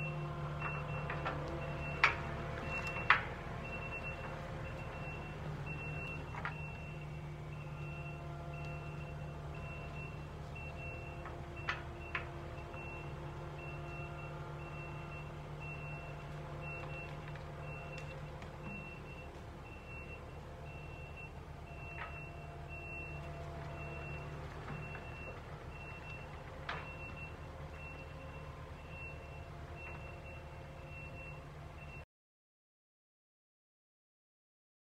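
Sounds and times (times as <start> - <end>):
engine running under load: 0.0 - 32.0
reversing alarm beeping: 0.0 - 32.0.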